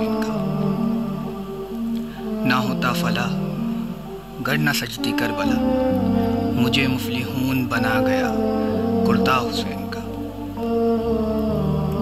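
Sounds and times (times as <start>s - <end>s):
slow music of long held notes: 0.0s - 12.0s.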